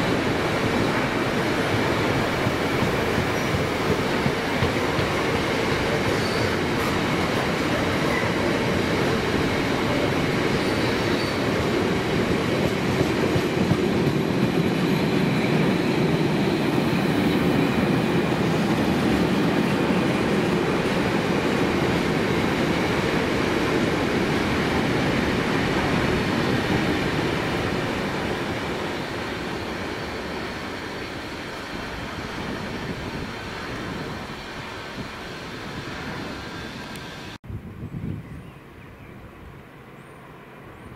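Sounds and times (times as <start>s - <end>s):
train wheels rumbling on rails: 0.0s - 37.4s.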